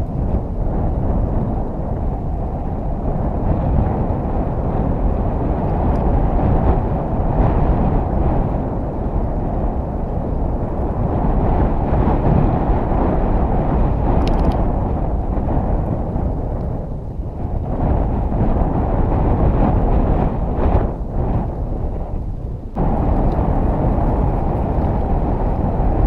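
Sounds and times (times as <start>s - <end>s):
tyre noise on asphalt: 0.0s - 26.0s
wind buffeting microphone: 0.0s - 26.0s.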